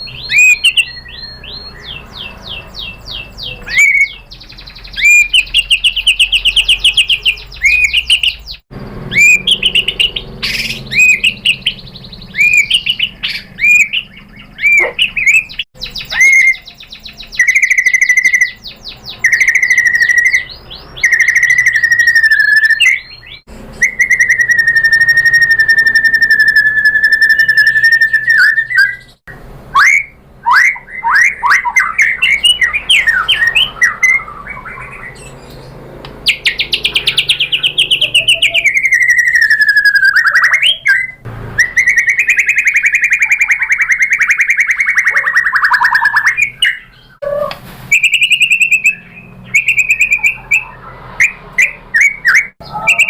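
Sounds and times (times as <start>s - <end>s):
bird chirps and whistles: 0.0s - 35.6s, 36.3s - 53.0s.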